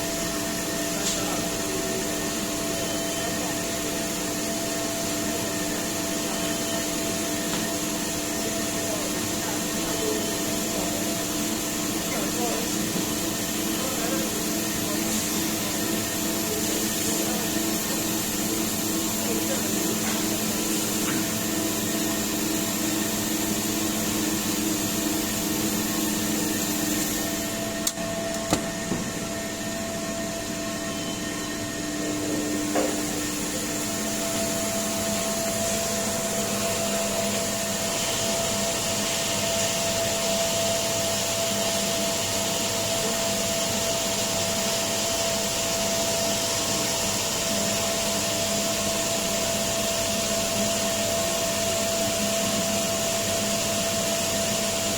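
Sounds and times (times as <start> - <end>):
washing machine hum and hiss: 0.0 - 54.9.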